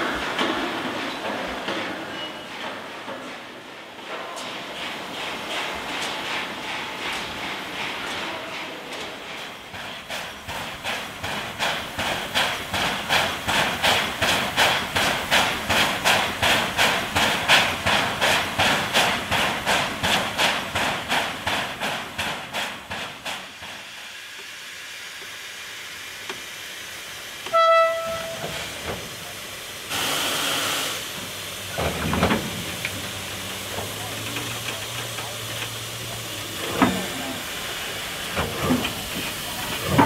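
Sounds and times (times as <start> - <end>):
steam locomotive chuffing: 0.0 - 40.0
hiss of escaping steam: 4.6 - 40.0.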